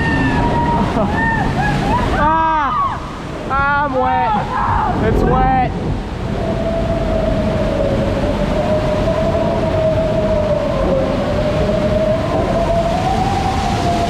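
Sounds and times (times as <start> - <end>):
water ride rumble: 0.0 - 14.0.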